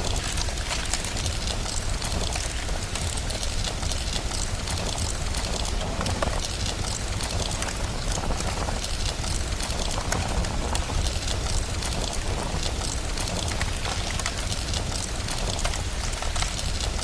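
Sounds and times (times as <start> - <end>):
rain hiss: 0.0 - 17.0
wood fire crackling: 0.0 - 17.0.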